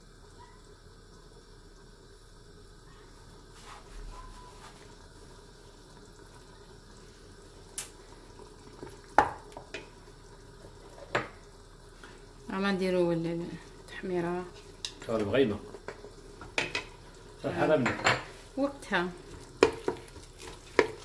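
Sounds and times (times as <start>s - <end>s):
pot cooking with faint hiss: 0.0s - 21.0s.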